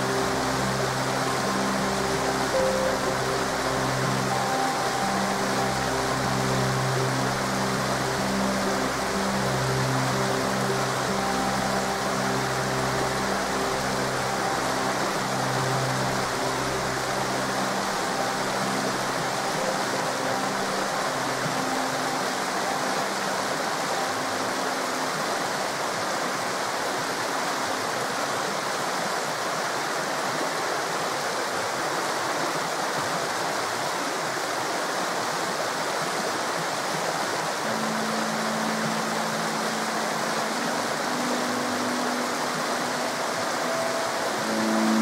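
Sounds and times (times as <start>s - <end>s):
river flowing: 0.0s - 45.0s.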